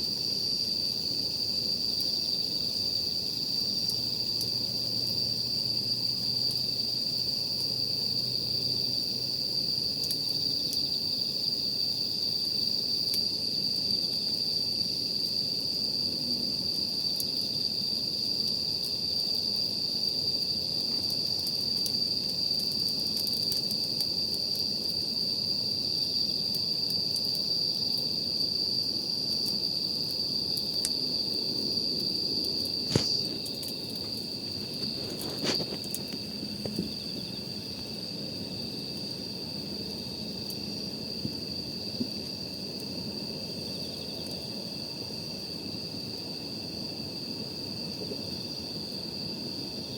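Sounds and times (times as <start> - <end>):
campfire crackling: 0.0 - 49.9
crickets chirping: 0.0 - 49.9.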